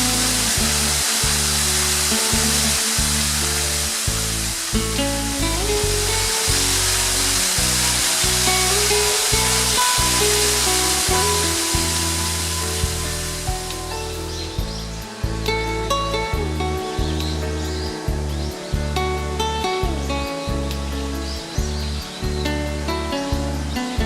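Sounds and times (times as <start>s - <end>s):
slow background music: 0.0s - 24.0s
waterfall rushing: 0.0s - 24.0s.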